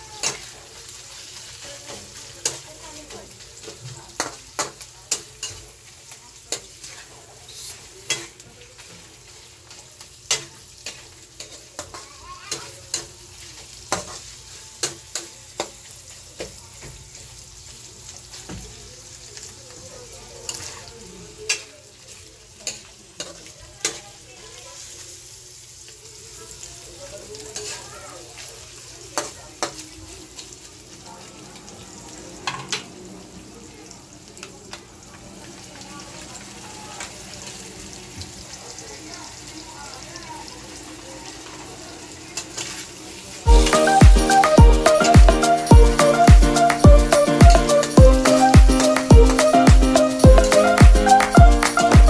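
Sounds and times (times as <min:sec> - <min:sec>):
chicken sizzling in a wok: 0:00.0 - 0:43.7.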